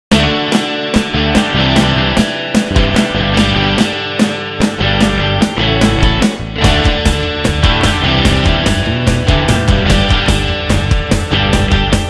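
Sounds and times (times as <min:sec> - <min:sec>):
rock music with fast beat: 0:00.1 - 0:12.0.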